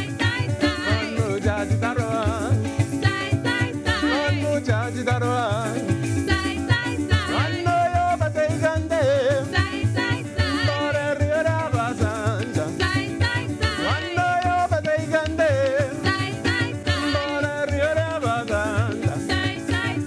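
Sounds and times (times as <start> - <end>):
strummed strings: 0.0 - 20.0.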